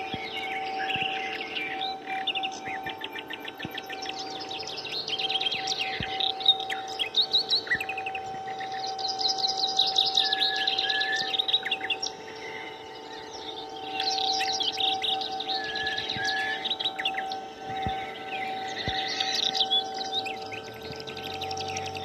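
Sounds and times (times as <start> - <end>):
small birds chirping: 0.0 - 22.0
steady two-note hum: 0.0 - 22.0.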